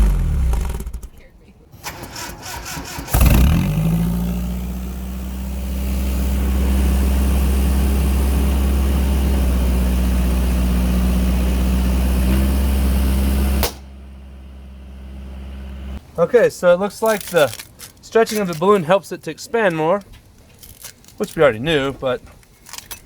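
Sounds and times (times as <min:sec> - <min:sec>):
truck engine cranking and starting: 0:00.0 - 0:16.2, 0:16.8 - 0:23.0
truck engine idling: 0:00.0 - 0:23.0.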